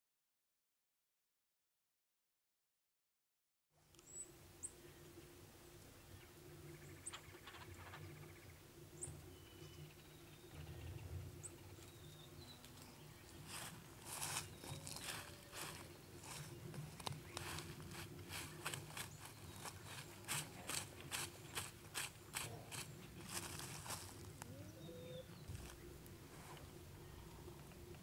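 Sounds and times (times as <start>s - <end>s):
hens pecking frosty ground: 4.8s - 28.0s.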